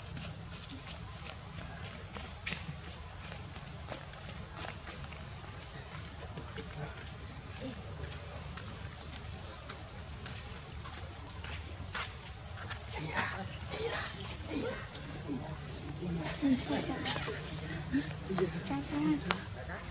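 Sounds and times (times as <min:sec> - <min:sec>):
insects droning: 0:00.0 - 0:19.9.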